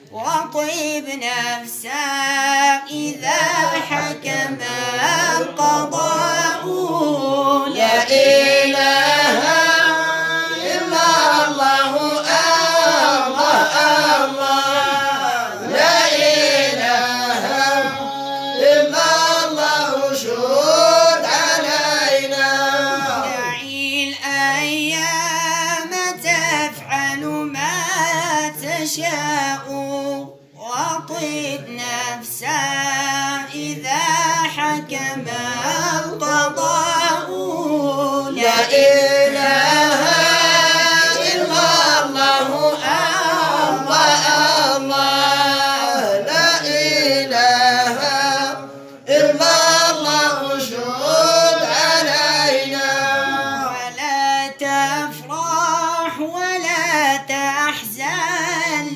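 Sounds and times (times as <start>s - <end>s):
person singing devotional song: 0.0s - 58.9s.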